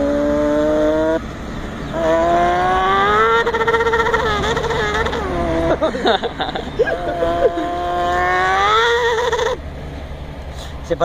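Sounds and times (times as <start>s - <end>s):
man imitating a motorcycle: 0.0s - 1.2s, 1.9s - 9.6s.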